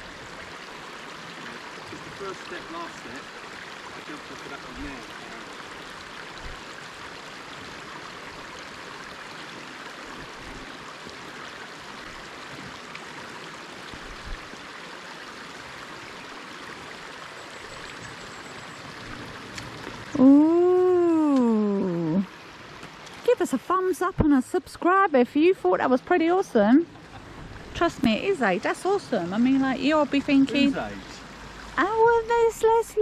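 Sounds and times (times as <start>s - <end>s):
river water rushing: 0.0s - 24.1s, 26.8s - 33.0s.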